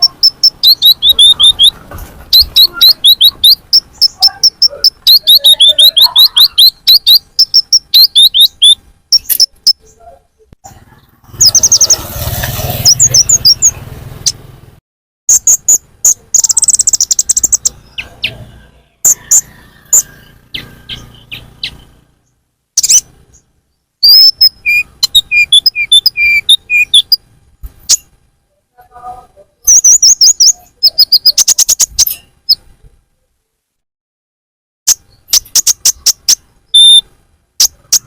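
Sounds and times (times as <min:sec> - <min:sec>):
bird chirps and trills: 0:00.0 - 0:14.5, 0:15.3 - 0:28.2, 0:29.2 - 0:32.7, 0:34.9 - 0:38.0.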